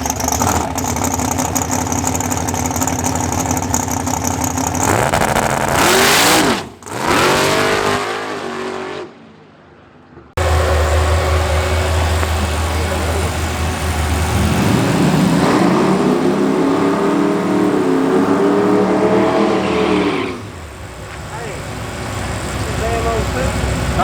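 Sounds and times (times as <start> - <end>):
low engine drone: 0.0 - 8.1, 9.8 - 24.0
race car engine revving: 0.0 - 9.2, 10.4 - 24.0.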